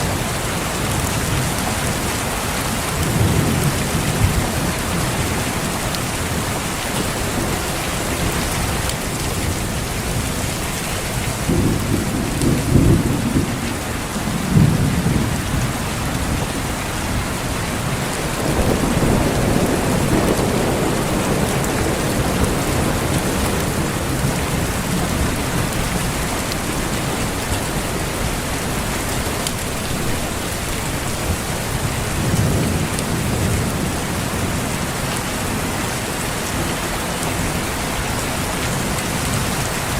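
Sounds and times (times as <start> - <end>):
thunder rumbling: 0.0 - 28.8, 29.6 - 37.7
heavy rain: 0.0 - 39.9.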